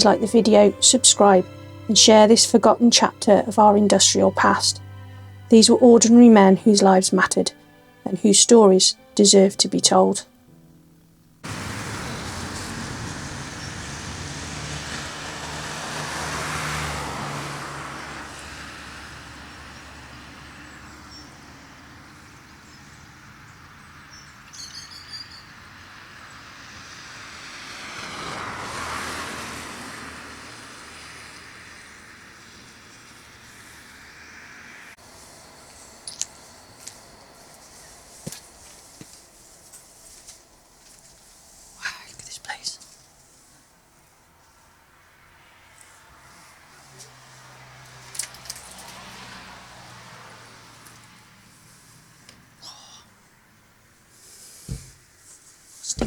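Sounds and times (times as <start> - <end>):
cars passing: 0.0 - 56.0
road traffic noise: 0.0 - 56.0.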